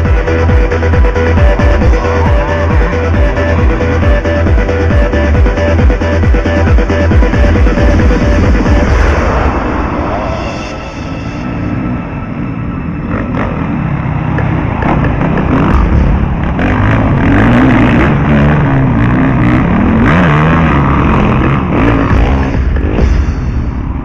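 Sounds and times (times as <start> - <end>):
motocross bike engines revving: 0.0 - 9.7, 11.5 - 23.2.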